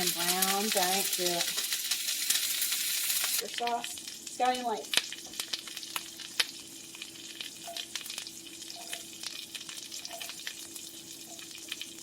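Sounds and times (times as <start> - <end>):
butter sizzling in a pot: 0.0 - 12.0.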